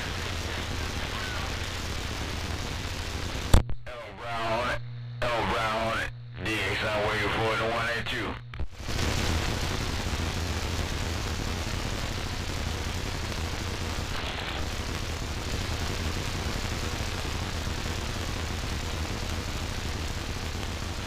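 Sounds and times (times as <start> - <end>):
radio receiver hiss and hum: 0.0 - 21.0.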